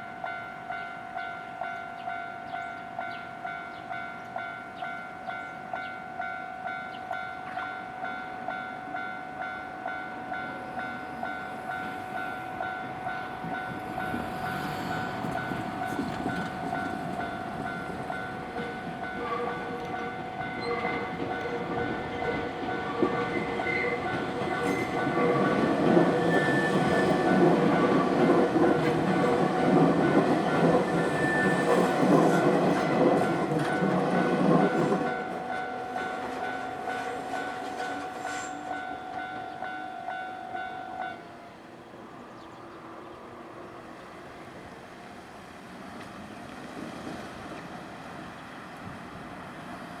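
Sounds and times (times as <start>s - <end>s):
train rumble: 0.0s - 50.0s.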